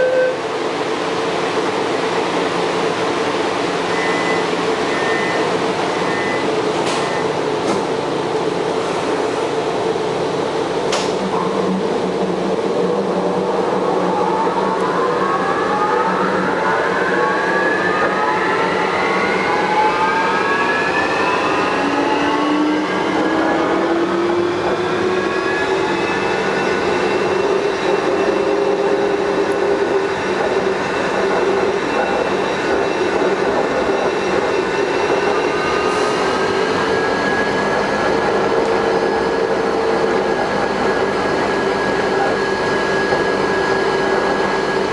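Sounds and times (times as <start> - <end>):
metro train motor whine: 0.0 - 44.9.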